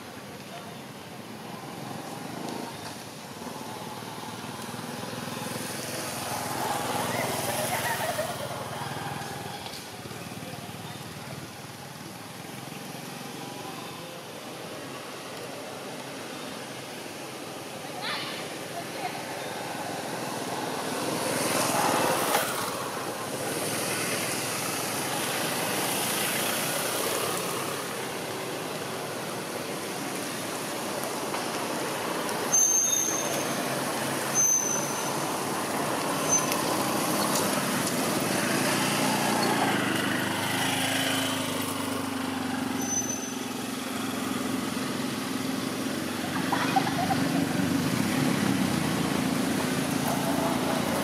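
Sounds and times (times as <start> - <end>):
road traffic rushing: 0.0 - 51.0.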